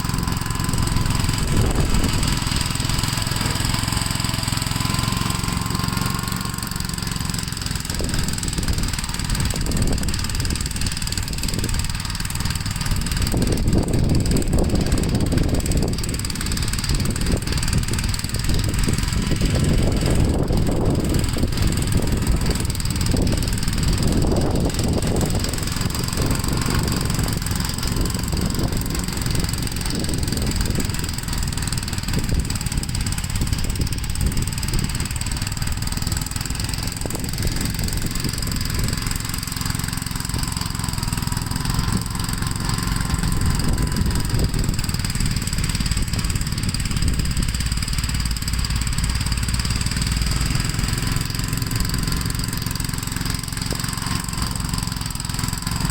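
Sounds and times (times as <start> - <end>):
small tractor engine running: 0.0 - 55.9.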